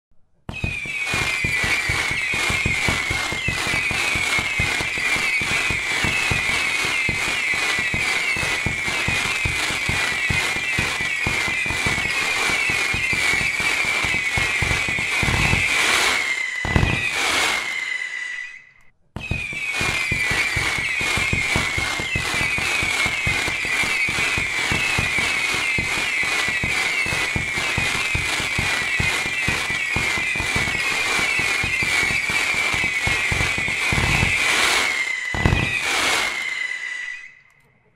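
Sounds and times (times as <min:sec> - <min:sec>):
dense firework crackling: 0:00.5 - 0:18.6, 0:19.2 - 0:37.3
firework bangs: 0:00.5 - 0:37.4
falling firework whistles: 0:00.5 - 0:37.6.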